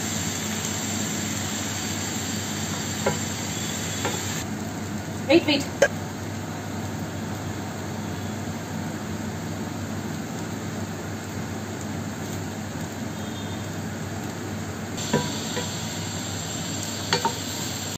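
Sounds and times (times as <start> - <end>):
potatoes sizzling in oil: 0.0 - 17.9.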